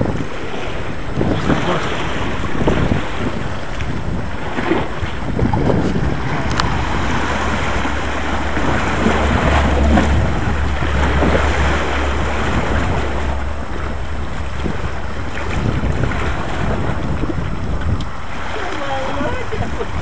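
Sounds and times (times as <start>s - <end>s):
waves washing against rocks: 0.0s - 20.0s
wind buffeting microphone: 0.0s - 20.0s.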